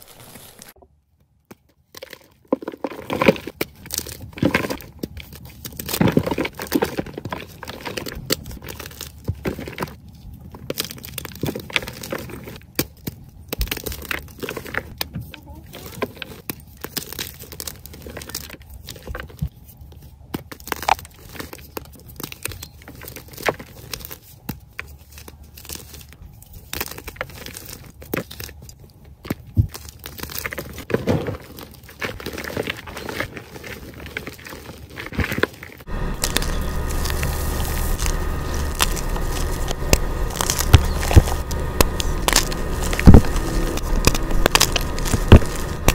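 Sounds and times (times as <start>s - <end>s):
chalk blocks crunching by hand: 1.9s - 45.9s.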